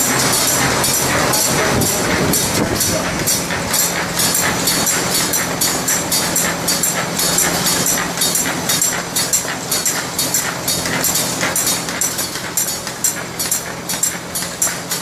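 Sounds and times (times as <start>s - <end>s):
rapid mechanical clacking: 0.0s - 15.0s
steady motor hum: 0.0s - 15.0s.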